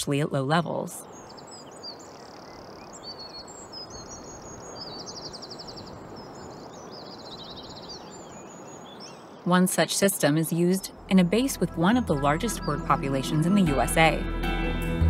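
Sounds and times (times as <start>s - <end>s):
outdoor ambience hiss: 0.0s - 14.2s
birds chirping and trilling: 0.1s - 14.2s.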